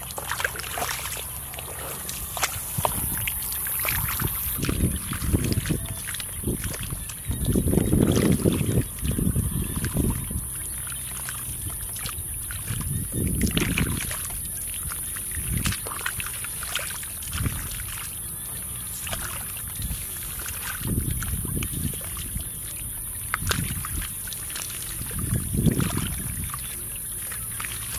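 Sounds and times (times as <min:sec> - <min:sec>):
hands splashing in muddy water: 0:00.0 - 0:27.9.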